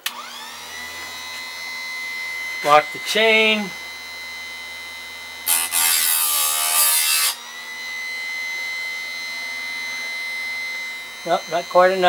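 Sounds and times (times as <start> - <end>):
electric motor whining: 0.0 - 12.0
grinding wheel grinding metal: 0.0 - 12.0.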